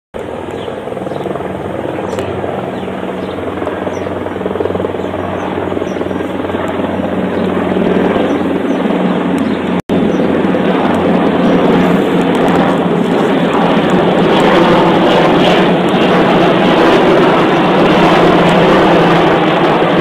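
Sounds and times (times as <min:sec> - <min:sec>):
helicopter engine drone: 0:00.2 - 0:20.0
helicopter rotor blades chopping: 0:00.2 - 0:20.0.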